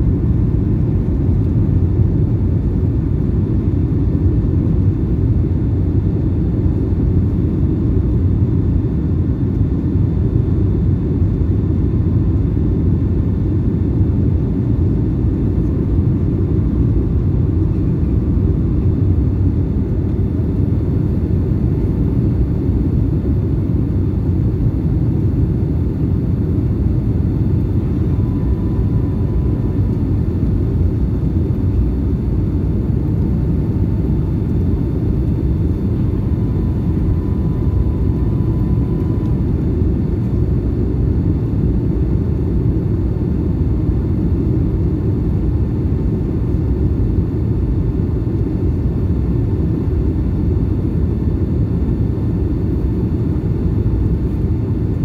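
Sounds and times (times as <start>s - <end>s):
airplane cabin rumble: 0.0s - 55.0s
faint high whine: 3.6s - 55.0s.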